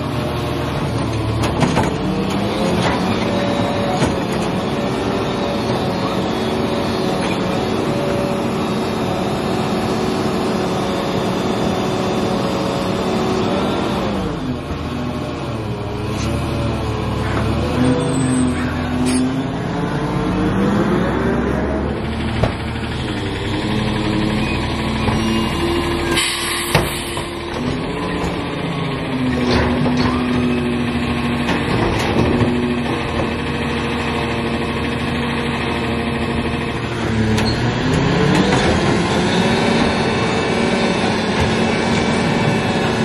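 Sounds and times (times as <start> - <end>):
garbage truck engine running: 0.0 - 43.0.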